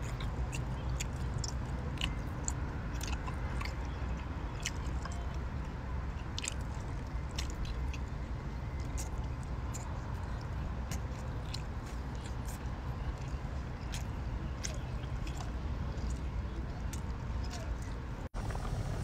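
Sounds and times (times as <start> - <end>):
chewing and biting: 0.0 - 18.0
steady low rumble: 0.0 - 19.0.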